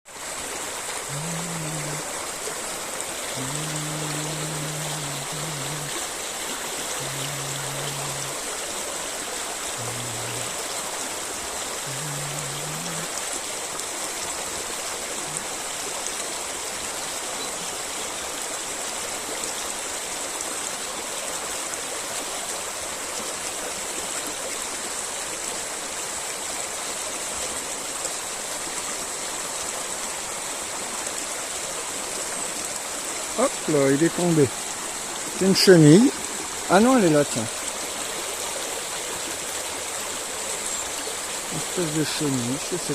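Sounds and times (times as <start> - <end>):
river flowing: 0.1 - 42.9.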